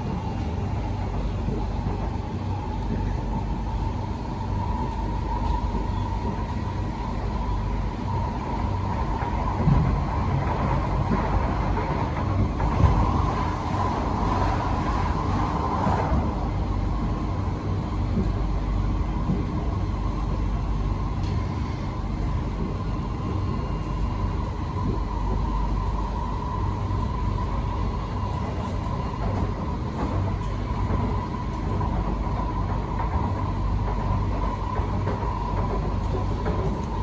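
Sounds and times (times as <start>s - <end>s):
train high whine: 0.0s - 37.0s
train low rumble: 0.0s - 37.0s.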